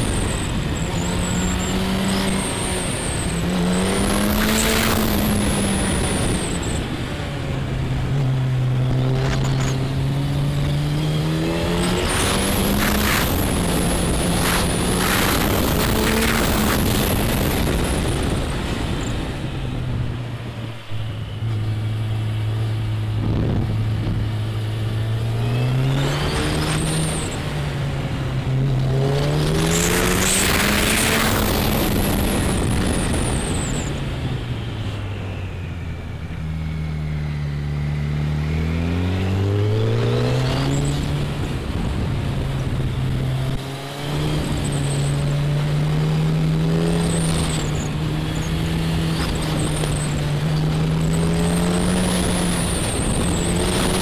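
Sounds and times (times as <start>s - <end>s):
motorcycle engine revving: 0.0s - 54.0s
rush of noise: 0.0s - 54.0s.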